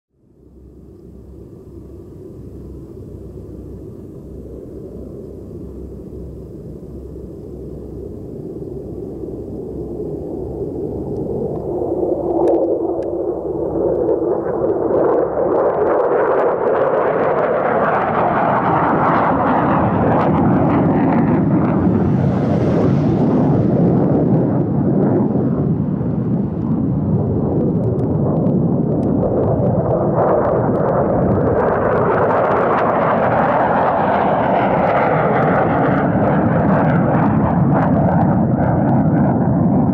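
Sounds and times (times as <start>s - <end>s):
fighter jet engine rumble: 0.2s - 39.9s.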